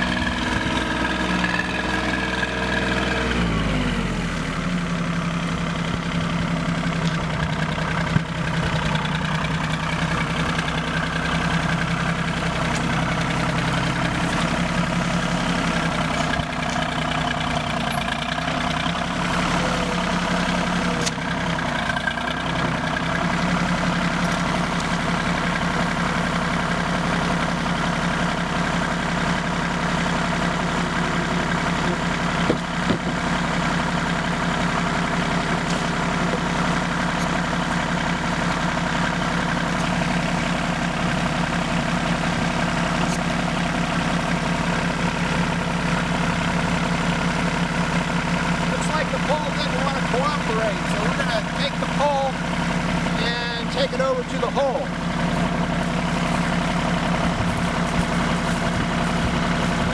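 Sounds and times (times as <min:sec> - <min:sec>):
tractor diesel engine idling: 0:00.0 - 0:59.9
engine knocks: 0:04.5 - 0:59.9.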